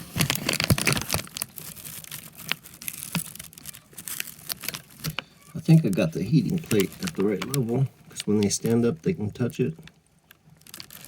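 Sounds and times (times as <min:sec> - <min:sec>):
rustling and crinkling: 0:00.0 - 0:11.0
sharp crackles: 0:00.0 - 0:11.0.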